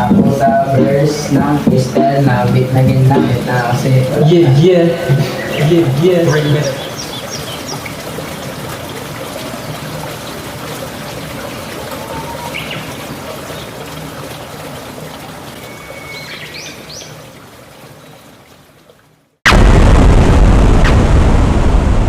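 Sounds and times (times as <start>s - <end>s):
running water hiss: 0.0s - 19.0s.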